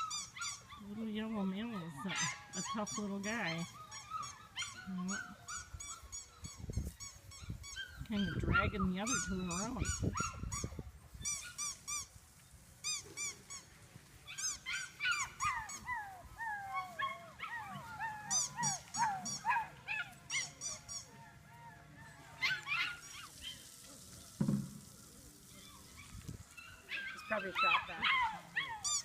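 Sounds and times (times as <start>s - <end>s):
puppies yipping and whining: 0.0s - 12.2s, 12.8s - 23.8s, 25.5s - 29.0s.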